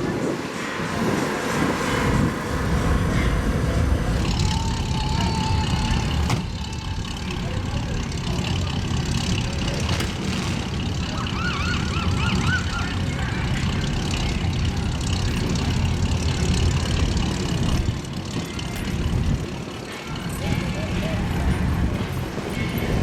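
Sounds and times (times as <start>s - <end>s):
vehicles rumbling past: 0.0s - 23.0s.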